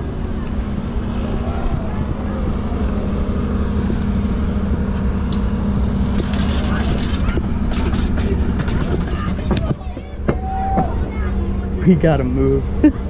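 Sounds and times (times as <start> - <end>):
constant low hum: 0.0 - 13.0
vehicle rumble: 0.0 - 13.0.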